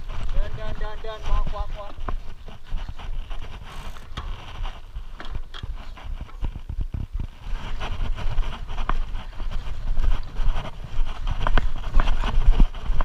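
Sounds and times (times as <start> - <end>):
bike rattling over rocks: 0.0 - 13.0
wind buffeting camera: 0.0 - 13.0.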